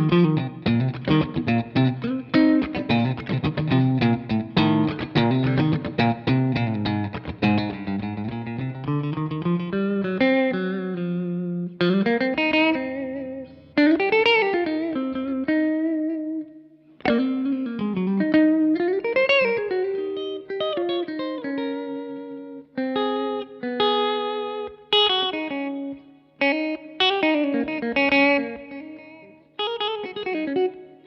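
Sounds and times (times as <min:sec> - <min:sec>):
electric guitar lead with bends: 0:00.0 - 0:31.0.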